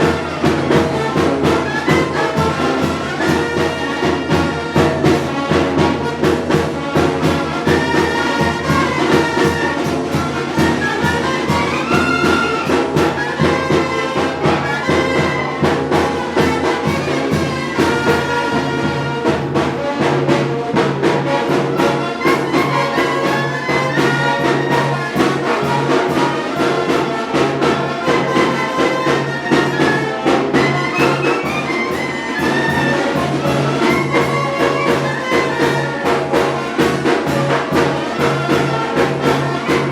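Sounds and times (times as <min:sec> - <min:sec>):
percussion beat: 0:00.0 - 0:39.9
trumpets and trombones: 0:00.0 - 0:39.9.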